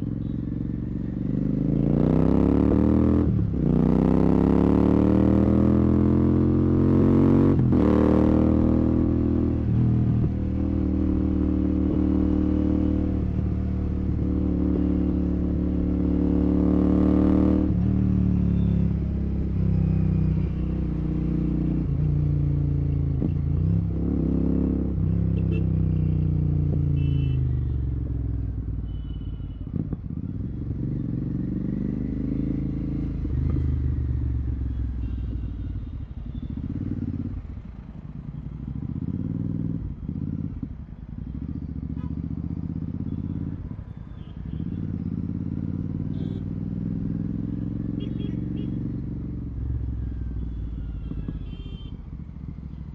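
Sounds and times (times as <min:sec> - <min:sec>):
motorcycle engine revving: 0:00.0 - 0:28.9, 0:29.6 - 0:52.9.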